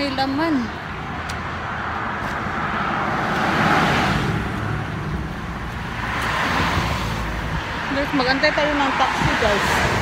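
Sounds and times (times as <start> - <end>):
car passing by: 1.2 - 10.0.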